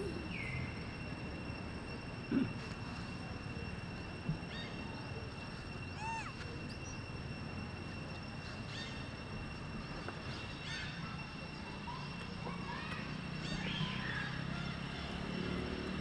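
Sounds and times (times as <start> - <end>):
high-pitched insect drone: 0.0 - 16.0
outdoor background noise: 0.0 - 16.0.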